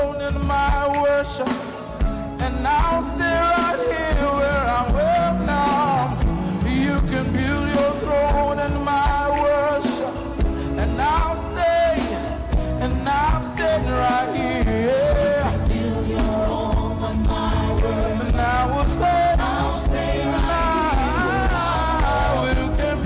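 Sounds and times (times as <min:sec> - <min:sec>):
band with bass and drums: 0:00.0 - 0:23.0
person singing gospel: 0:00.0 - 0:23.0.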